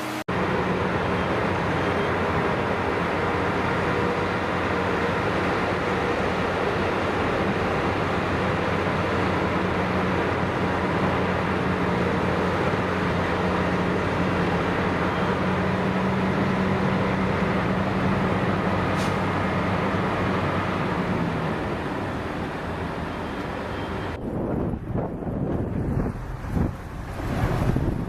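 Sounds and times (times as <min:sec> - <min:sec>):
heavy vehicle engine humming: 0:00.0 - 0:28.0.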